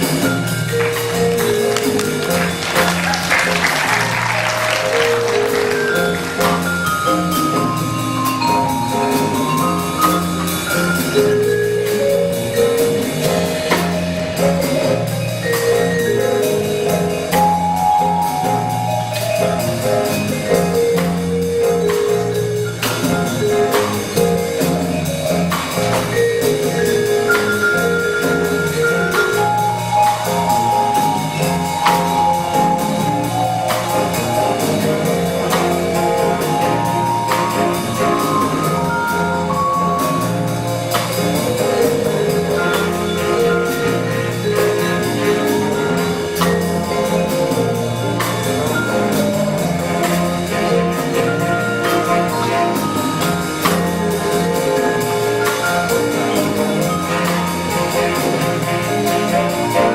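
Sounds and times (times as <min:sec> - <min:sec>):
band playing: 0:00.0 - 0:59.9.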